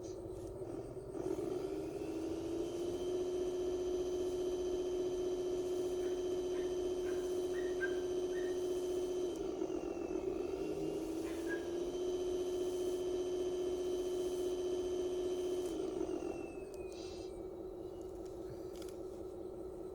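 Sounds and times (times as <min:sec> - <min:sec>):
electric motor whine: 0:00.0 - 0:19.9.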